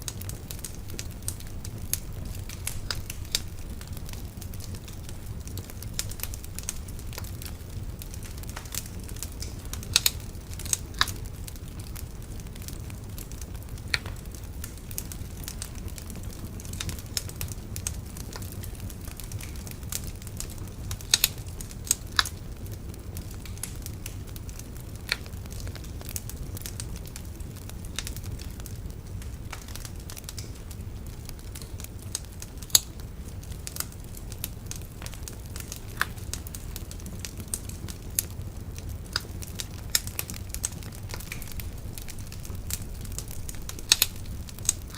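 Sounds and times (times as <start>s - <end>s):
bonfire crackling and popping: 0.0s - 44.9s
steady low rumble: 0.0s - 44.9s.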